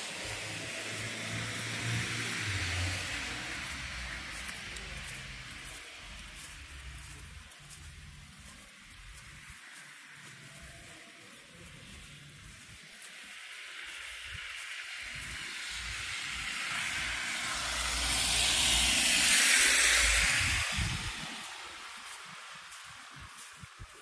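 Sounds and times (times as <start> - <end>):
tyres hissing in slush: 0.0 - 24.0.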